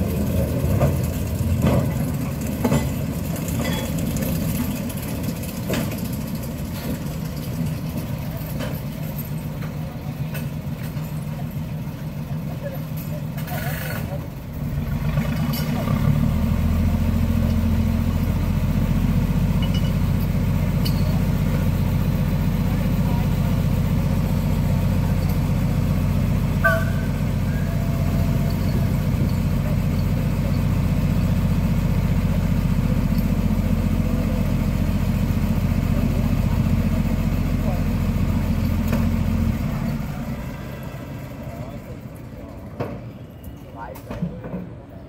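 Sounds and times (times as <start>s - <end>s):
locomotive engine running: 0.0s - 45.0s.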